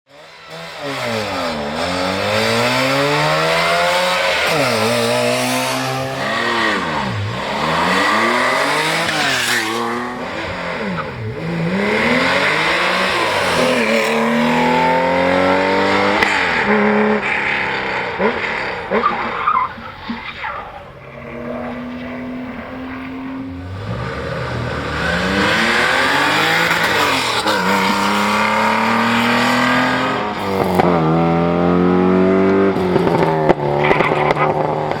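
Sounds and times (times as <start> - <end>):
cars passing: 0.1 - 35.0
rally car engines revving: 0.1 - 35.0.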